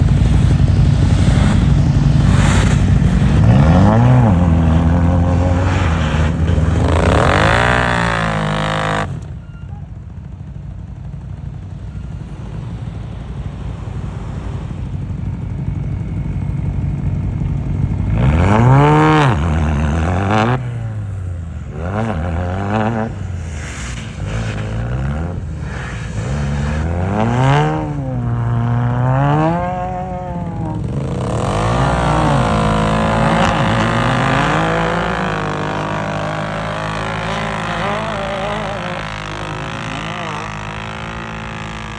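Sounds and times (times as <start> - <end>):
engine revving under load: 0.0 - 9.4, 11.0 - 41.9.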